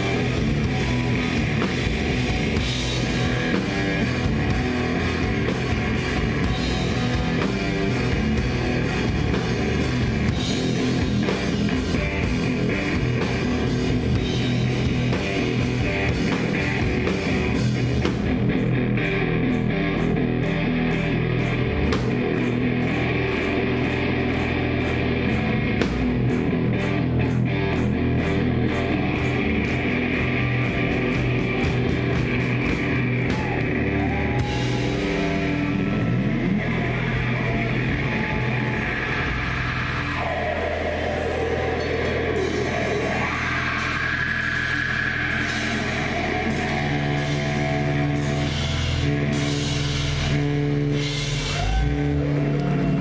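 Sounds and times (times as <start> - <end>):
held electric guitar notes: 0.0 - 53.0
rock band playing live: 0.0 - 53.0.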